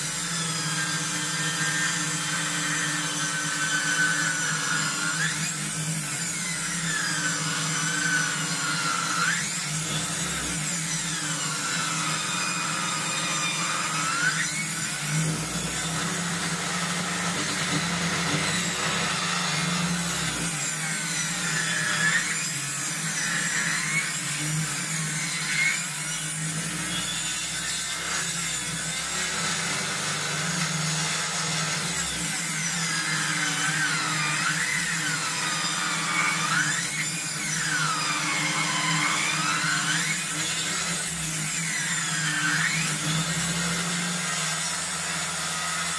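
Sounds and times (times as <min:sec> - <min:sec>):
circular saw cutting log: 0:00.0 - 0:45.9.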